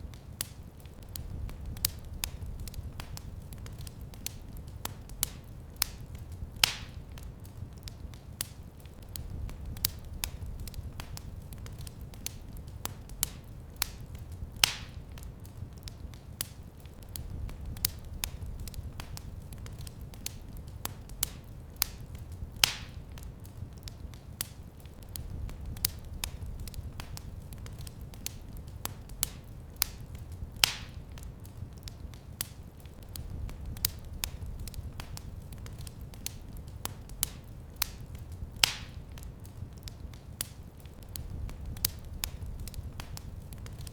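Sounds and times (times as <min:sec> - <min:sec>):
low rumble of flames: 0:00.0 - 0:43.9
wood fire crackling: 0:00.0 - 0:43.9.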